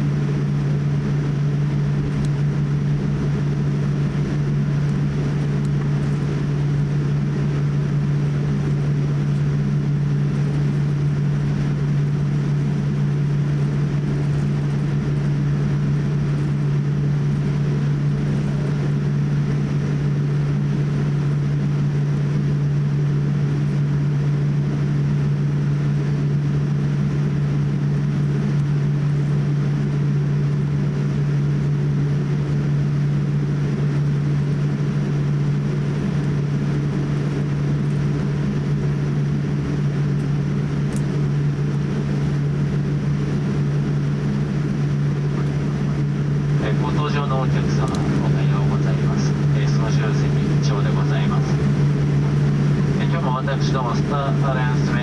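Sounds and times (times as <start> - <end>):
airliner cabin engine hum: 0.0 - 55.0.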